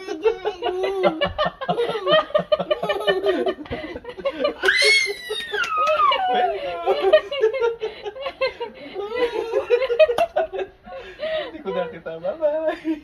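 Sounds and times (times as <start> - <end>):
man and toddler laughing: 0.0 - 10.7.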